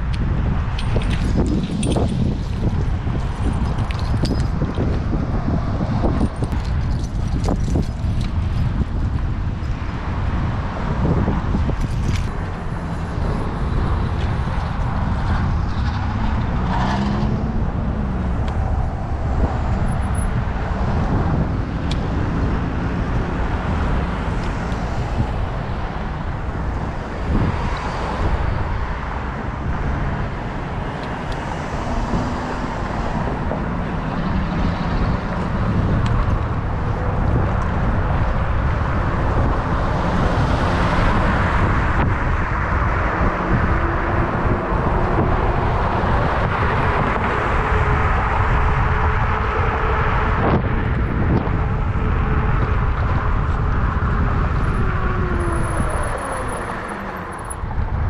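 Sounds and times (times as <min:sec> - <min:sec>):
road noise: 0:00.0 - 0:58.0
vehicle engine rumbling: 0:00.0 - 0:58.0.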